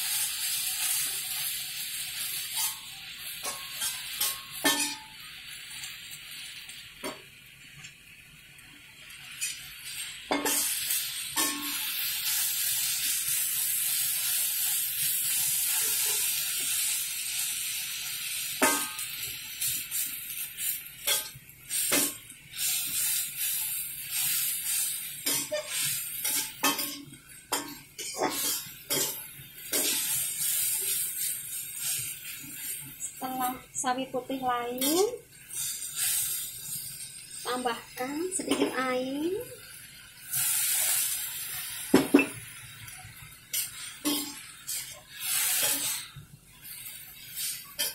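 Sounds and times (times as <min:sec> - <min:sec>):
greens sizzling in hot oil: 0:00.0 - 0:47.9.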